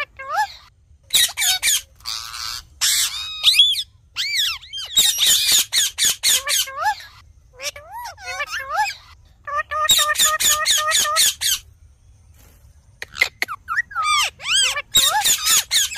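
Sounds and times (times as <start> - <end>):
parakeets squawking and screeching: 0.0 - 11.7, 13.0 - 15.9.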